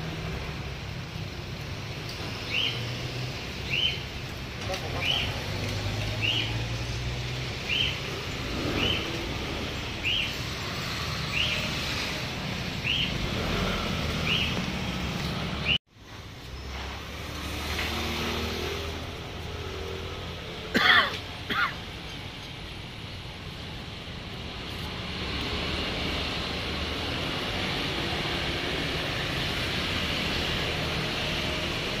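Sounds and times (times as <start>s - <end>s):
street traffic hum: 0.0s - 32.0s.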